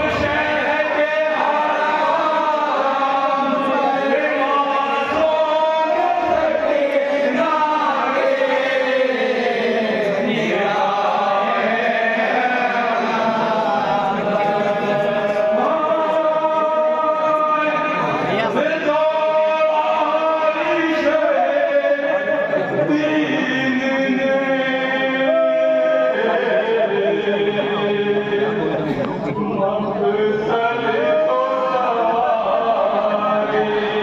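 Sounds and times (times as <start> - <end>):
men chanting a lament: 0.0 - 34.0.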